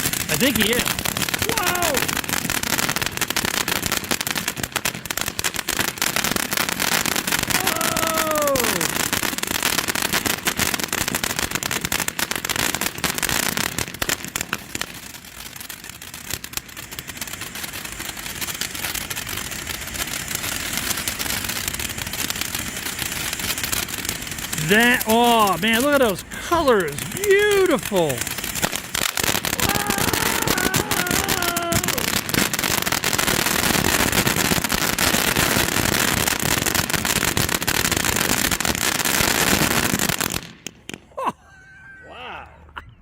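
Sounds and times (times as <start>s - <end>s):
firework crackling and hissing: 0.0s - 41.1s.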